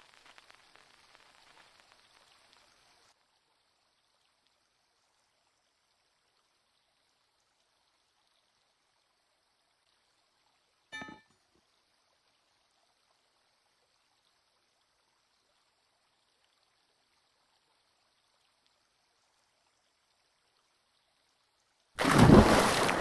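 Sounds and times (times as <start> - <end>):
faint moving water: 0.0 - 23.0.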